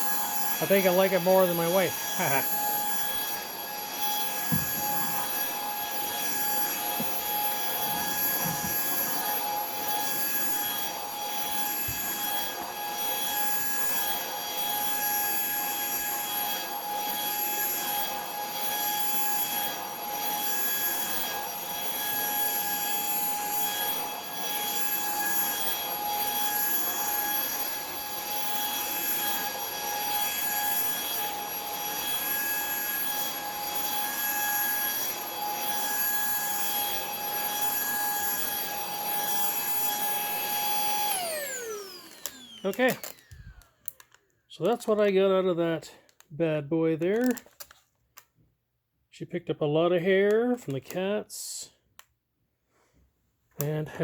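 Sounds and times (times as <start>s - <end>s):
vacuum motor whine: 0.0s - 44.0s.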